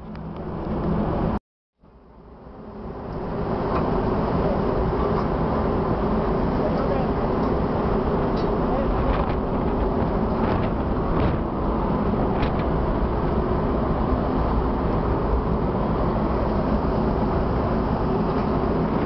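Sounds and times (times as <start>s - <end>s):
ship engine and wake rumble: 0.0s - 19.0s.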